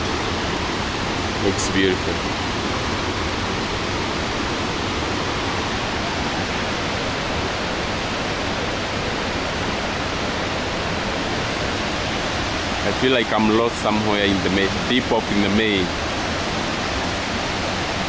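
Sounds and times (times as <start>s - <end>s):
whitewater rushing over boulders: 0.0s - 18.0s.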